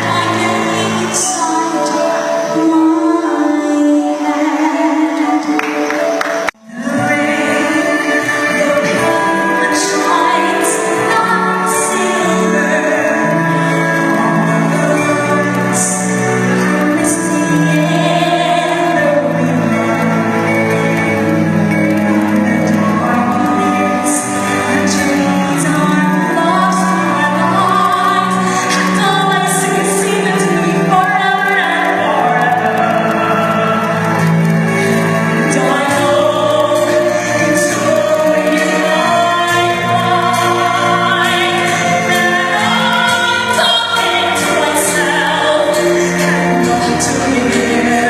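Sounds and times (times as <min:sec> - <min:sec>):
musical accompaniment: 0:00.0 - 0:48.0
person singing: 0:00.0 - 0:48.0.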